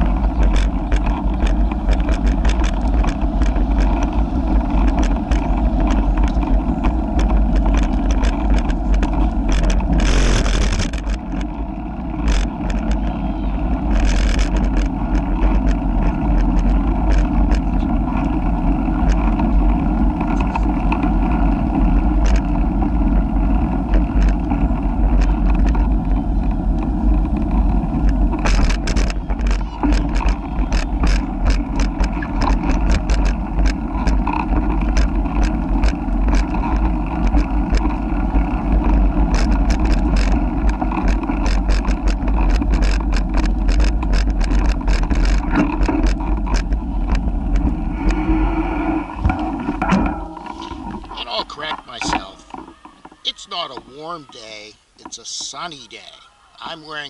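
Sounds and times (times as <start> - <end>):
bicycle clicks and rattles: 0.0 - 48.4, 49.2 - 55.7
wind buffeting microphone: 0.0 - 54.4.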